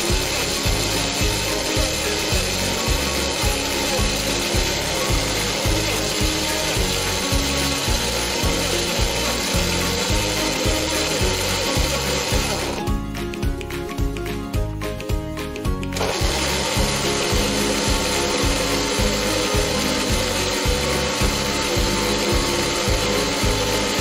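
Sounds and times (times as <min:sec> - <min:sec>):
blender motor whirring: 0:00.0 - 0:13.0, 0:15.7 - 0:24.0
background music with low beat: 0:00.0 - 0:24.0.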